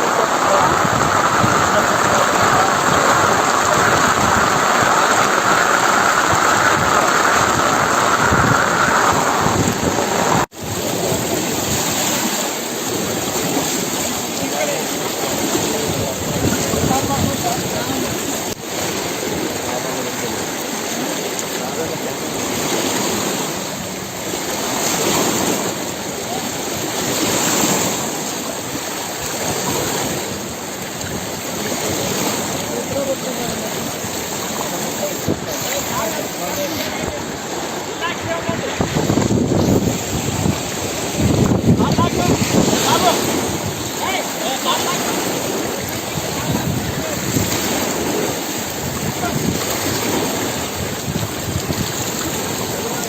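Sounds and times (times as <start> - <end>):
rushing floodwater: 0.0 - 53.0.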